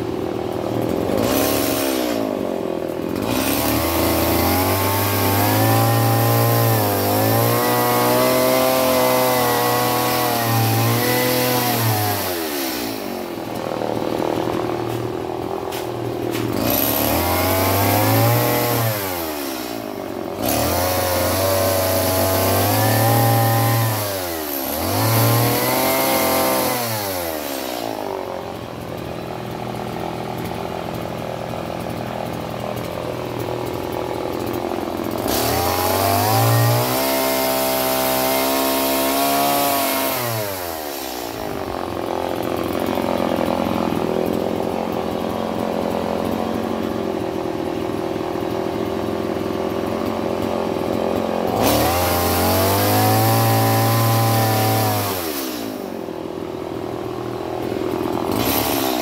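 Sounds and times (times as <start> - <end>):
chainsaw revving and cutting wood: 0.0 - 59.0.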